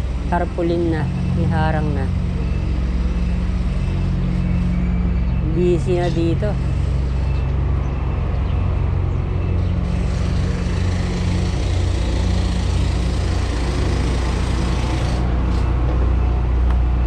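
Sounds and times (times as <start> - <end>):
road and wind noise: 0.0 - 17.0
vehicle engine droning: 0.0 - 17.0.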